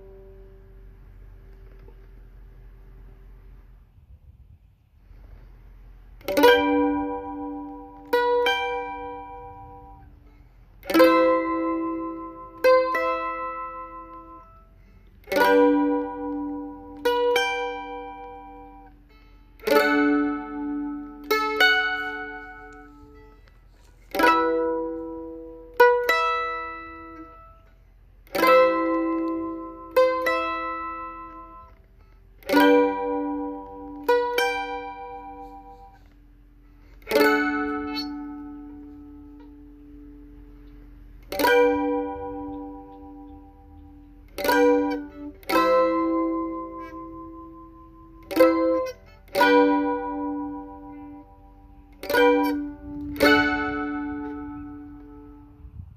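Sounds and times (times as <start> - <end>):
mandolin playing slow tune: 0.0 - 55.9.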